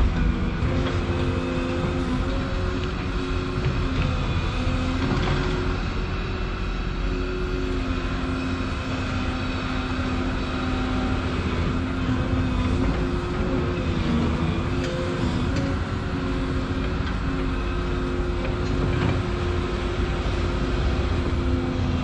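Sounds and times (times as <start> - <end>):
excavator diesel drone: 0.0 - 22.0.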